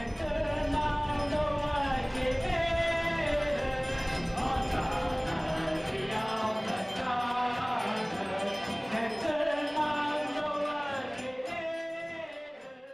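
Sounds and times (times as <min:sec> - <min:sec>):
background music with choir: 0:00.0 - 0:12.9.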